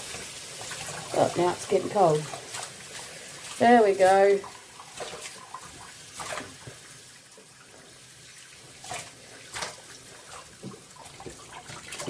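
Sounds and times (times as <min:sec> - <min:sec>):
tap water running into sink: 0:00.0 - 0:12.0
water splashes: 0:00.0 - 0:12.0.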